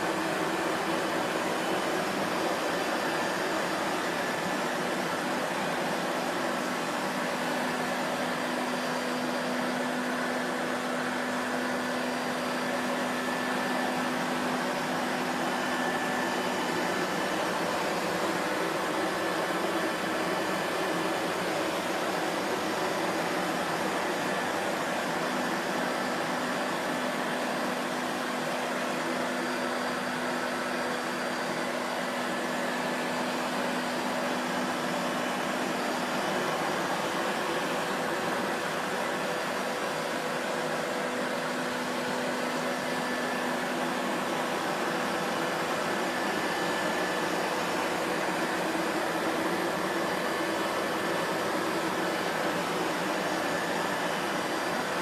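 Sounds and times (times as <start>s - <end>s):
vacuum cleaner motor roaring: 0.0s - 55.0s.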